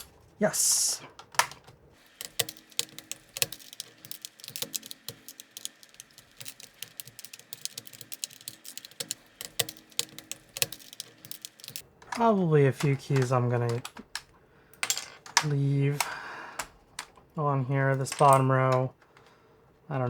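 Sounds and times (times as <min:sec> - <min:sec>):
keycaps clicking and snapping: 0:01.1 - 0:19.3.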